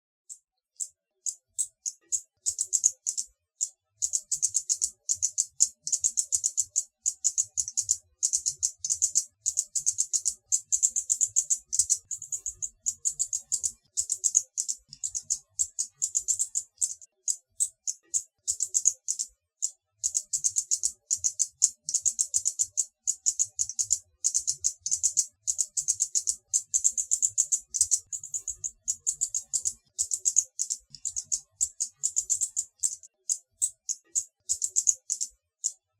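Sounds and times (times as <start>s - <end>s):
hummingbird chittering: 1.3s - 3.3s, 4.0s - 19.3s, 20.0s - 35.3s.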